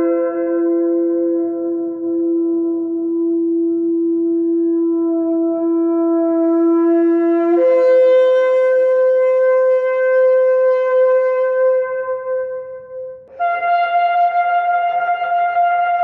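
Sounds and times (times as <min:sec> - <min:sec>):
shofar blast: 0:00.0 - 0:12.6, 0:13.3 - 0:16.0.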